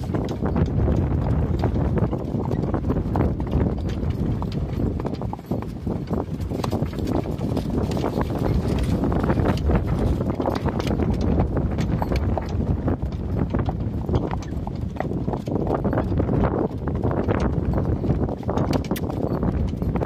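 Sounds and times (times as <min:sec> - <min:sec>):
horse hoofbeats clip-clopping: 0:00.0 - 0:20.0
wind buffeting microphone: 0:00.0 - 0:20.0.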